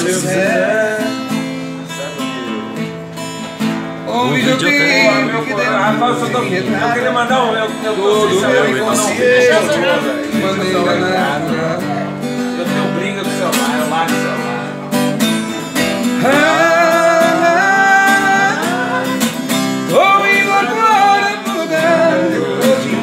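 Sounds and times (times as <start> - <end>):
man singing: 0.0 - 2.8, 4.0 - 14.8, 15.4 - 23.0
acoustic guitar strumming: 0.0 - 23.0.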